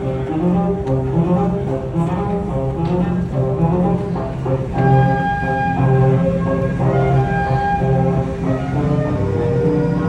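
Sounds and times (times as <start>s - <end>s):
long held melody notes: 0.0s - 10.0s
low bowed bass line: 0.0s - 10.0s.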